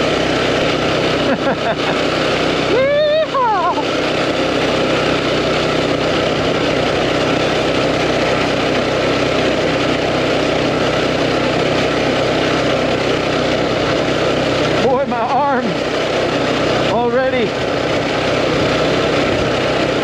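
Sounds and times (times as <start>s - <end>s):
mini bike engine running: 0.0s - 20.0s.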